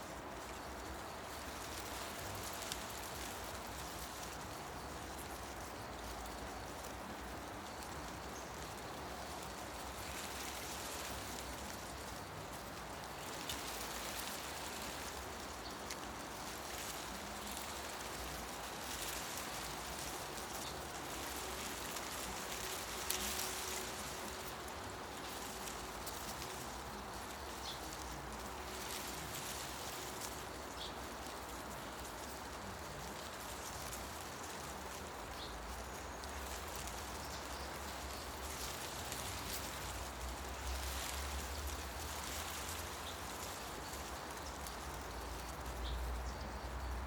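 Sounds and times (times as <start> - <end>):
wind rustling tree leaves: 0.0 - 47.0.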